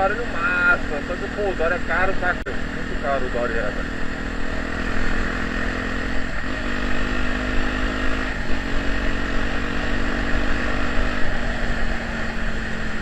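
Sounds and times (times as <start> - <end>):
motorcycle engine exhaust: 0.0 - 13.0.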